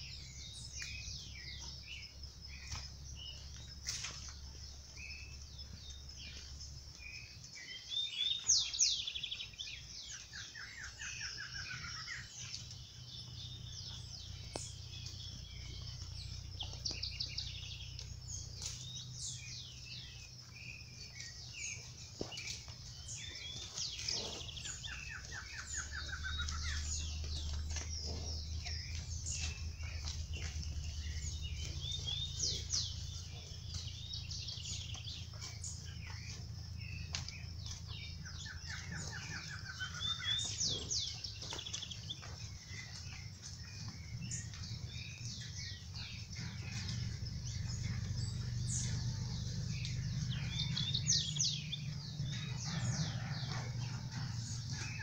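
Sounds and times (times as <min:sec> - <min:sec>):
birds chirping: 0:00.0 - 0:55.0
low steady rumble: 0:09.0 - 0:41.4, 0:42.1 - 0:55.0.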